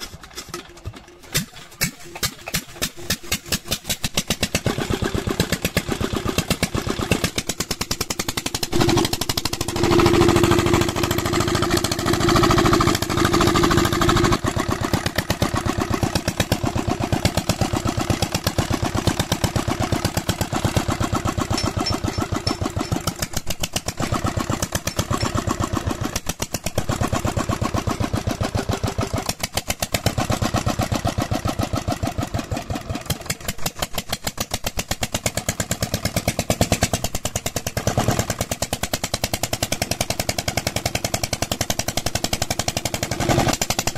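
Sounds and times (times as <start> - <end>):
diesel engine exhaust beats: 0.0 - 43.9.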